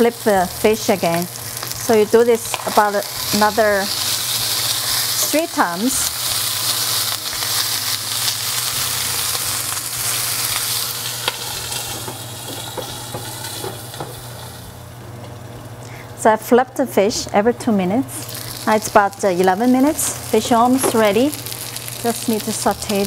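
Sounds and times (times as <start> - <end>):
fish sizzling in oil: 0.0 - 14.9, 18.2 - 23.0.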